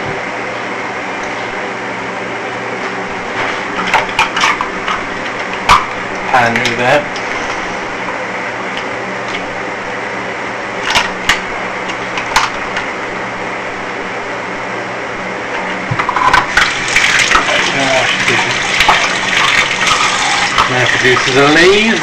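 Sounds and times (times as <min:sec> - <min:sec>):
machine hum with hiss: 0:00.0 - 0:22.0.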